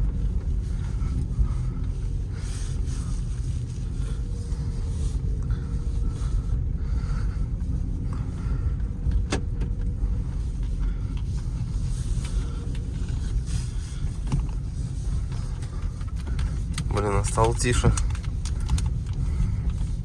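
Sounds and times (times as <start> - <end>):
road and tyre rumble in car: 0.0 - 20.0.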